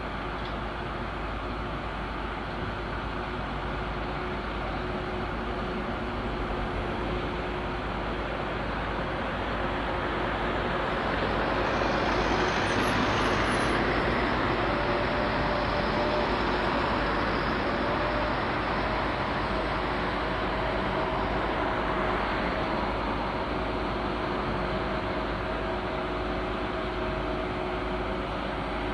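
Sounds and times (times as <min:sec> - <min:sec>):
faint steady whine: 0:00.0 - 0:28.9
heavy diesel engines running: 0:00.0 - 0:28.9.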